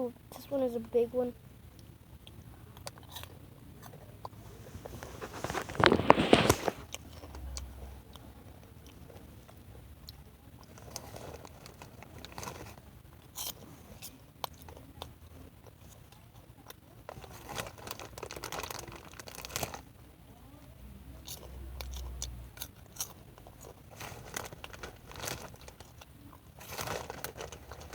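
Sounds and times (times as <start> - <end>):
popcorn crunching and chewing: 1.7 - 20.0, 21.1 - 27.9.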